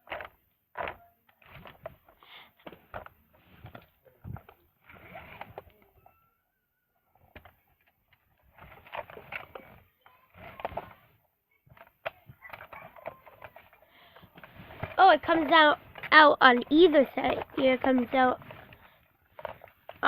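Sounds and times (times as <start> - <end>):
plastic toy rattling: 0.0 - 5.8, 7.1 - 20.0.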